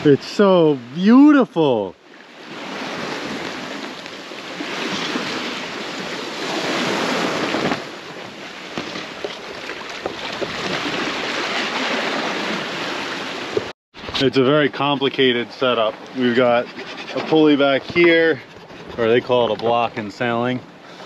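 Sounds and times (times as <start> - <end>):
sea water rushing along hull: 0.0 - 21.0.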